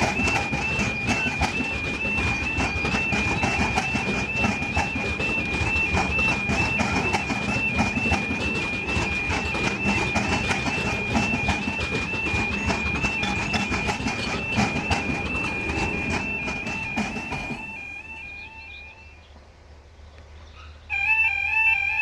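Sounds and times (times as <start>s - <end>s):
two-tone warning alarm: 0.0s - 19.3s, 20.9s - 22.0s
train wheels clattering on rails: 0.0s - 19.6s.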